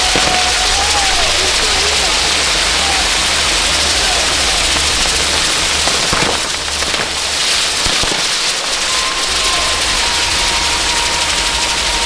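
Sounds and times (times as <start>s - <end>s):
sharp firework pops: 0.0s - 10.1s
fireworks spraying hiss: 0.0s - 12.0s.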